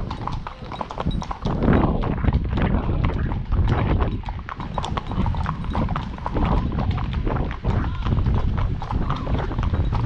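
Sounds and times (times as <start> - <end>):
horse hooves clip-clopping on road: 0.0 - 10.0.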